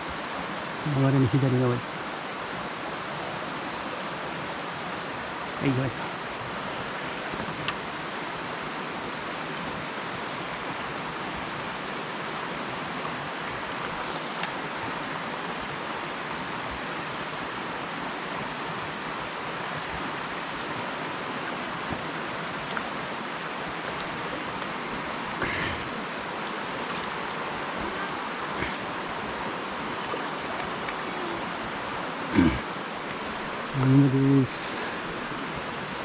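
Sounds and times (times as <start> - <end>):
stream water rushing over rocks: 0.0 - 36.0.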